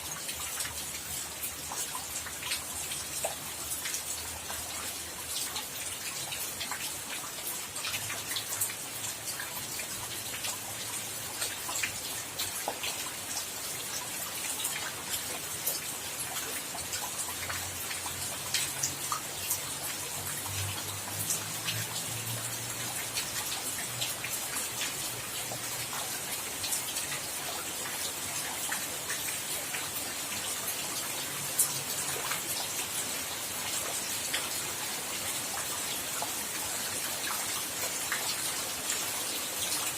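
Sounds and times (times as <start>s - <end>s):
rain drops ticking on hard surface: 0.0s - 39.9s.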